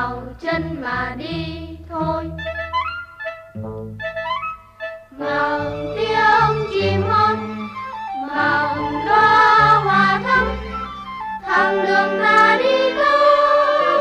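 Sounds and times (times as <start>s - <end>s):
children's song with instrumental backing: 0.0s - 14.0s.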